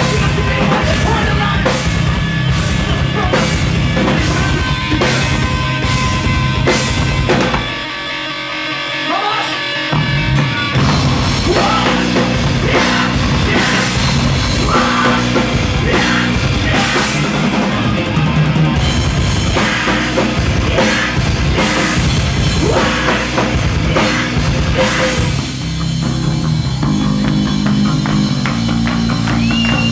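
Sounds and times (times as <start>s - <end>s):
driving drum kit: 0.0s - 8.4s, 9.1s - 29.9s
bass guitar: 0.0s - 29.9s
distorted electric guitars: 0.0s - 29.9s.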